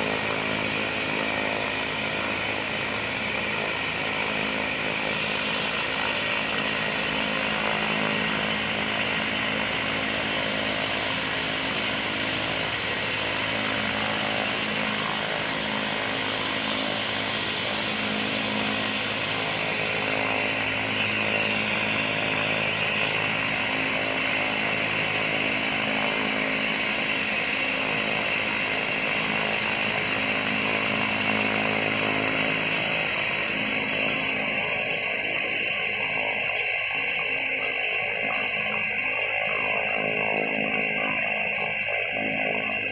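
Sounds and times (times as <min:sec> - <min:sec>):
turboprop engine whine: 0:00.0 - 0:42.9.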